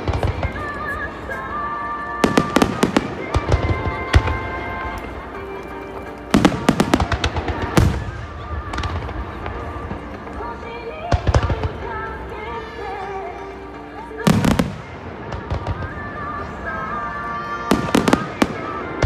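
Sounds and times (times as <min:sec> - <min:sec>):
fireworks bursting: 0:00.0 - 0:19.0
music playing: 0:00.0 - 0:19.0.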